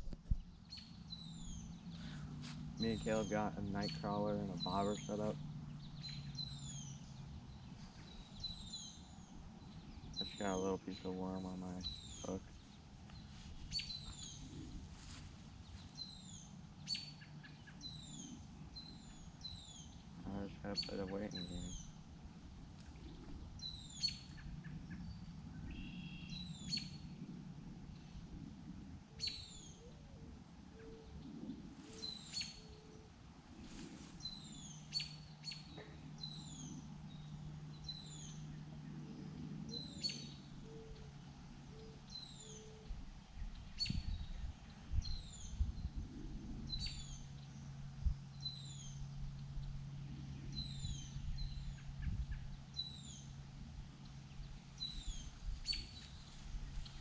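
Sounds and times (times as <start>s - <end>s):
faint low hum: 0.0s - 57.0s
songbirds chirping: 0.0s - 57.0s.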